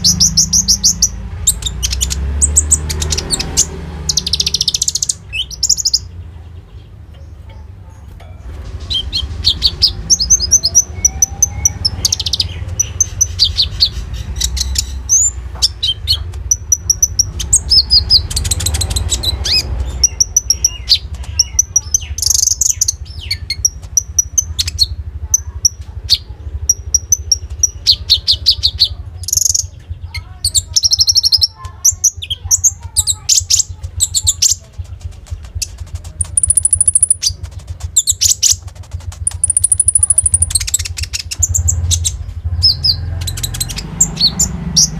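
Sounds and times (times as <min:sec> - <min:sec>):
sunbird chirping and trilling: 0:00.0 - 0:44.9.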